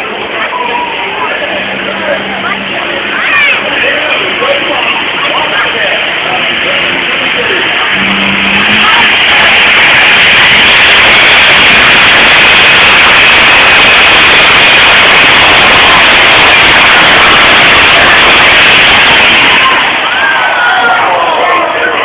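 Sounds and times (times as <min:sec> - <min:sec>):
faint high whine: 0:00.0 - 0:21.2
distorted tractor engine roar: 0:00.0 - 0:21.4.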